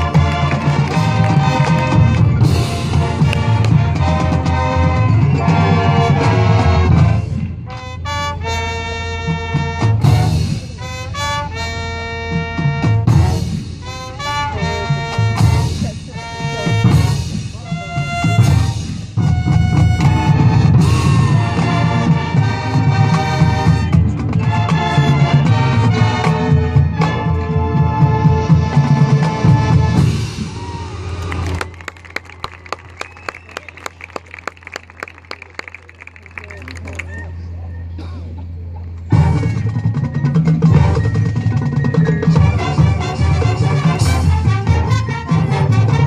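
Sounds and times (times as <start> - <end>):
marching band playing: 0.0 - 37.0, 39.0 - 46.0.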